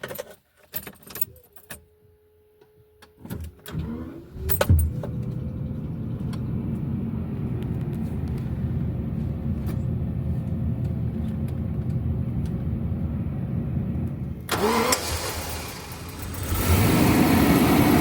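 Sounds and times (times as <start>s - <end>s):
ignition whine: 1.6s - 18.0s
car engine starting and idling: 3.2s - 18.0s.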